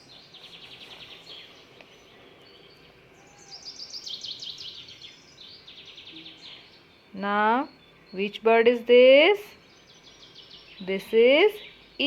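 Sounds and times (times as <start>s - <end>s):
small bird chirping trills: 0.0s - 12.0s.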